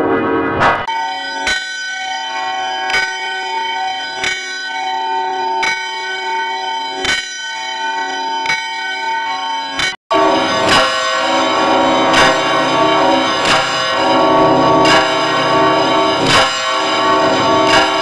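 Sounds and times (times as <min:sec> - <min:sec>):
bell ringing: 0:00.9 - 0:18.0.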